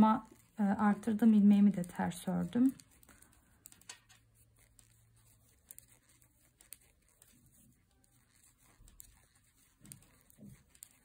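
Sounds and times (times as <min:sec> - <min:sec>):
knitting needles clicking: 0:00.0 - 0:11.0.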